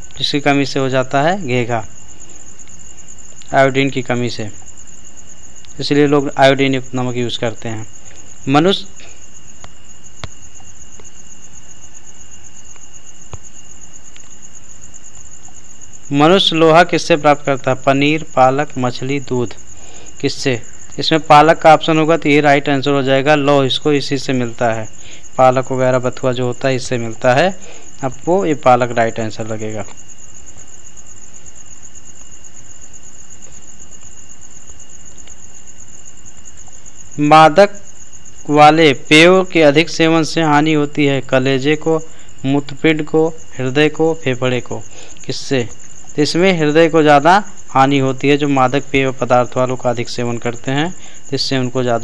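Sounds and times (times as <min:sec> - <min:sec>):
background hiss: 0:00.0 - 0:52.0
high-pitched insect trill: 0:00.0 - 0:52.0.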